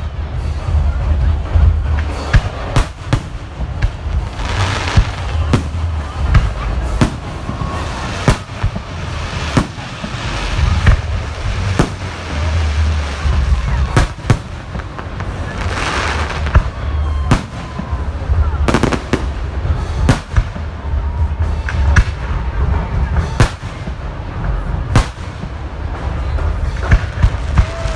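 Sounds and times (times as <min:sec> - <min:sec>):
fireworks crackling: 0:00.0 - 0:27.9
low rumble: 0:00.0 - 0:27.9.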